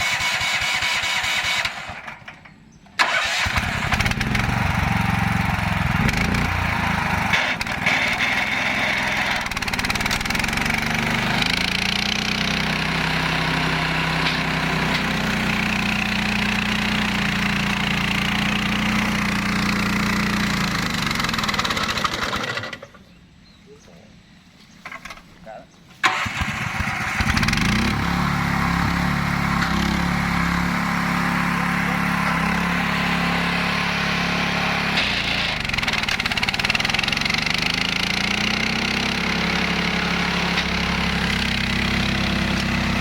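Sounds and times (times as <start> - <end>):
flail mower engine running: 0.0 - 23.1, 24.8 - 43.0.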